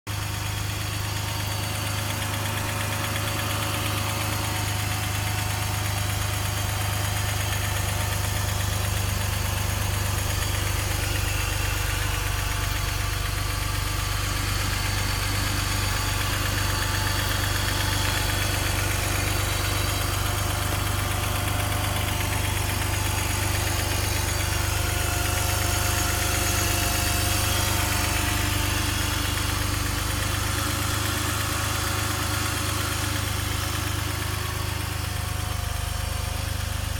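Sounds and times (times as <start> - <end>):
car engine idling: 0.1 - 36.9
engine knocking: 0.1 - 36.9.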